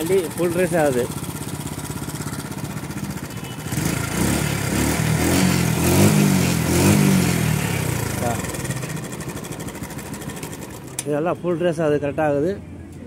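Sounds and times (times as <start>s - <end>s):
moped engine revving: 0.0s - 11.5s.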